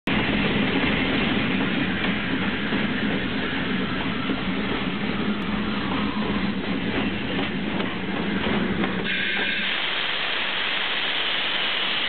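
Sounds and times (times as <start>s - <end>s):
steam locomotive machinery running: 0.1s - 12.0s.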